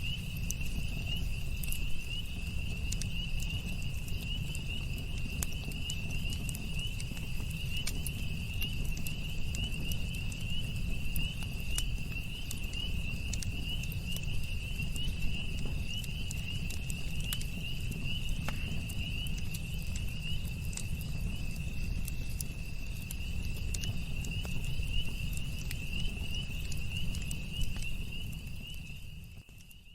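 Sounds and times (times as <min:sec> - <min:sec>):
campfire crackling and popping: 0:00.0 - 0:29.9.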